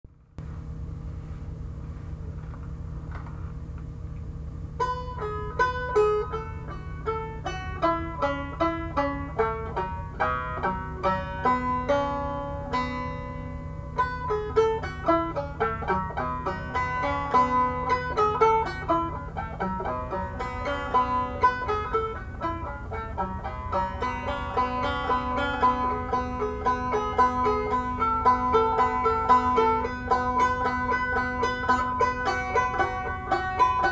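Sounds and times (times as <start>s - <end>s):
steady low hum: 0.1s - 33.9s
banjo blues tune: 4.8s - 33.9s.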